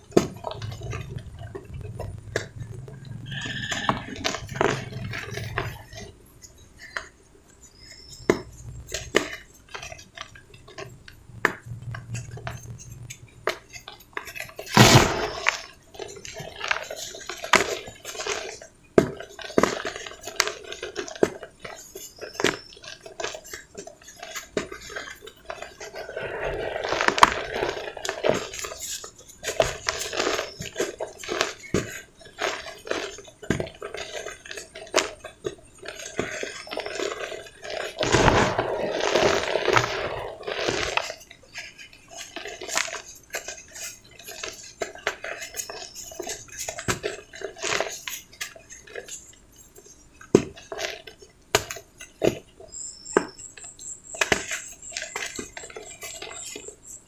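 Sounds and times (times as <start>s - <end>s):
cement balls crunching between fingers: 0.0s - 56.8s.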